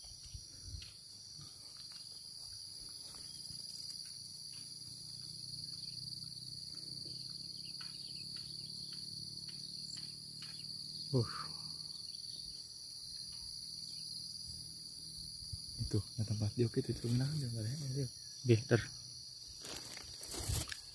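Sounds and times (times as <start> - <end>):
insects buzzing: 0.0 - 20.9.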